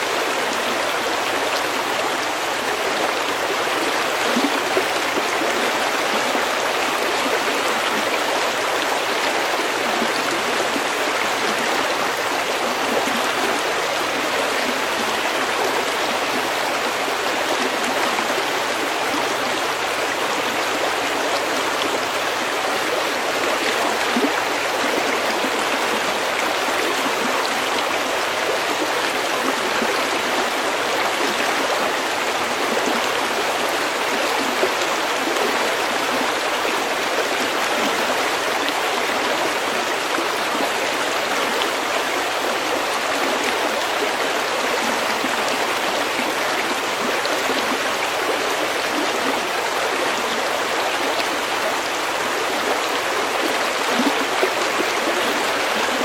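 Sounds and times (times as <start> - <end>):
stream flowing over pebbles: 0.0 - 56.0.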